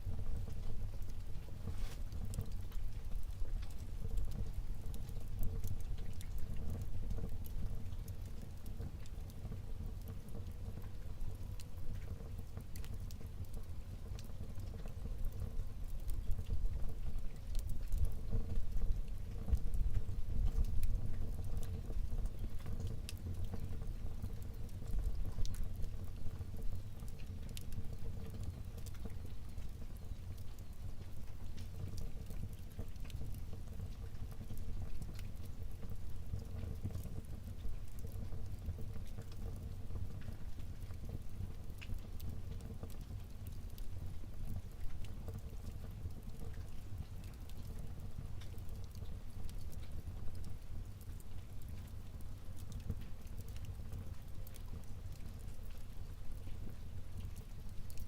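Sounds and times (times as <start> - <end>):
fire crackling and popping: 0.0 - 58.0
fire rumbling: 0.0 - 58.0.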